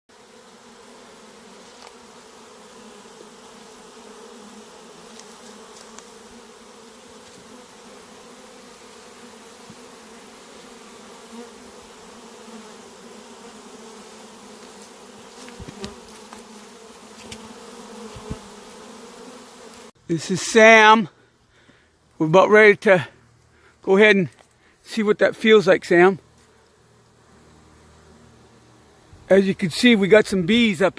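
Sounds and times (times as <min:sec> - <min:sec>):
bee swarm buzzing: 0:00.1 - 0:30.9.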